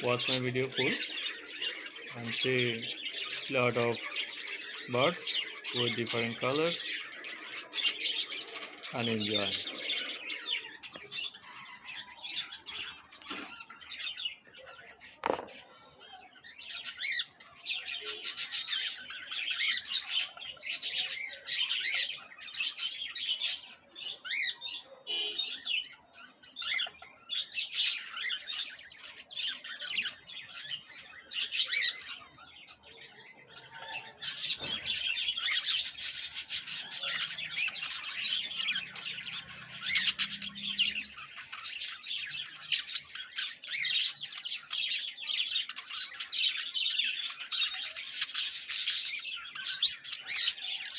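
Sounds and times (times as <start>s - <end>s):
budgerigars chattering: 0.0s - 14.4s, 24.3s - 50.9s.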